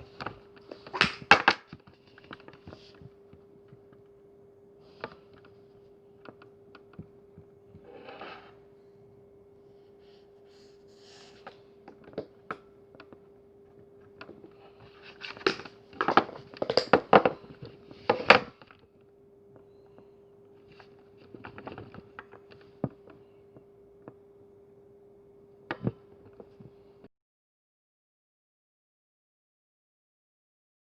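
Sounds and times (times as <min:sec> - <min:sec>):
faint steady hum: 0:00.0 - 0:27.1.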